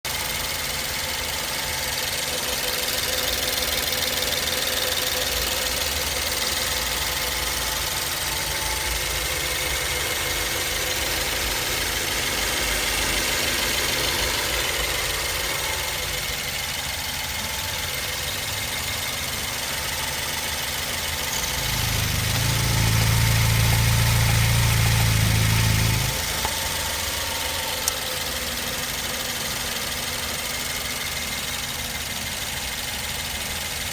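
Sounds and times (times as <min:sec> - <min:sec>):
car engine running: 0:00.1 - 0:33.9
deep engine hum: 0:00.1 - 0:33.9.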